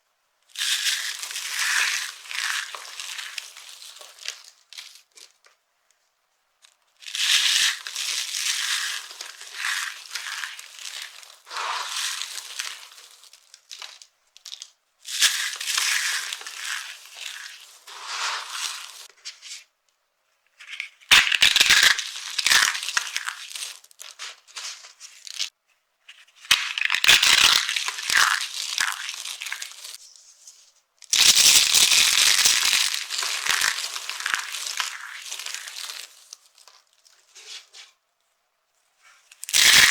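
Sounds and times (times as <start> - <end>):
dry soap crunching: 0.5 - 5.4, 6.9 - 19.1, 20.6 - 25.5, 26.5 - 30.0, 31.0 - 37.7, 39.3 - 39.9.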